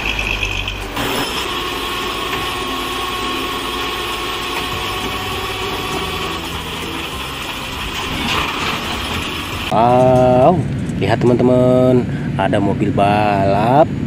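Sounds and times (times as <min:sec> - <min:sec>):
diesel engine running: 0:00.0 - 0:14.0
high whine: 0:00.0 - 0:14.0.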